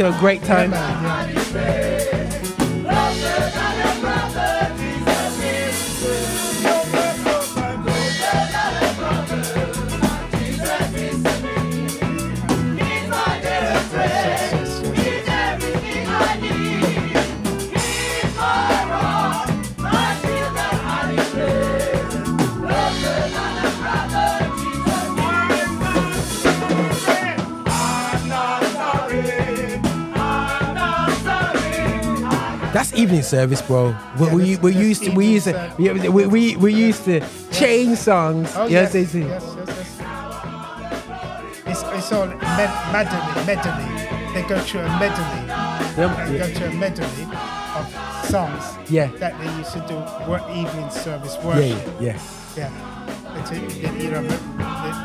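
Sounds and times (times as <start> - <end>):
drum kit and bass beat: 0.0 - 55.0
gospel choir singing with band: 0.0 - 55.0.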